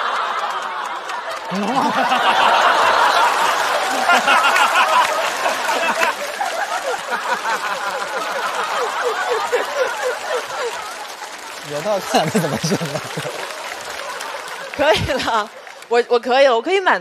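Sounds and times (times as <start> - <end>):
studio audience laughing: 0.0 - 16.0.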